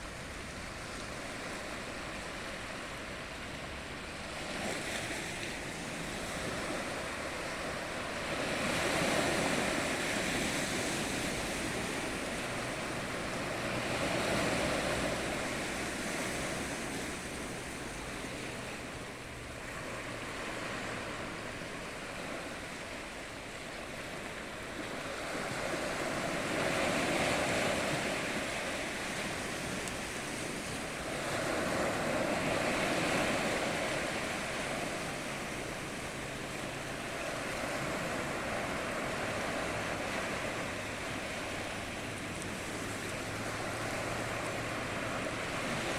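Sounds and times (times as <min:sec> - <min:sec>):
waves breaking: 0:00.0 - 0:45.9.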